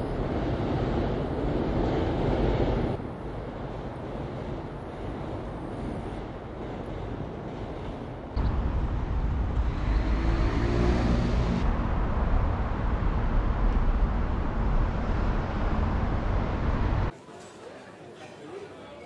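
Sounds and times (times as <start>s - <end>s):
traffic rumbling on bridge overhead: 0.0s - 17.1s.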